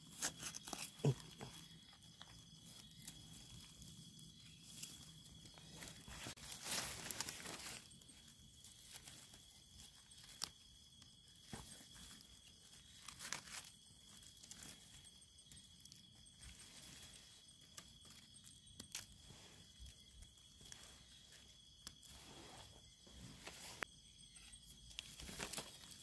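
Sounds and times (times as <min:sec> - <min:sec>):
dry leaves rustling and twigs snapping: 0:00.1 - 0:22.2, 0:23.4 - 0:26.0.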